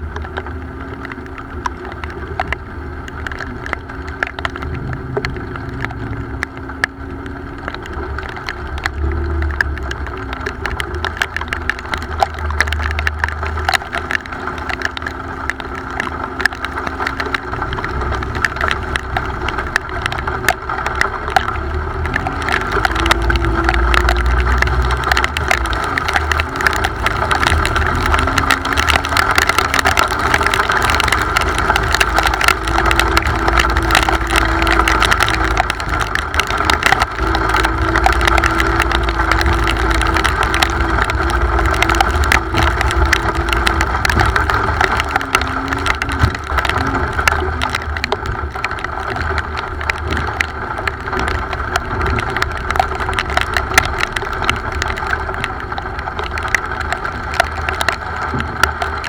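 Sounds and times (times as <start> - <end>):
sharp crackling ticks: 0.0 - 59.0.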